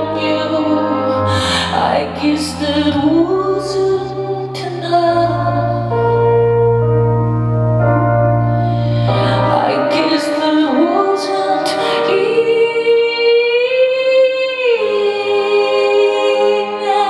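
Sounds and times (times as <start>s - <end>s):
woman singing: 0.0s - 6.2s, 8.9s - 17.0s
electric keyboard chords: 0.0s - 17.0s.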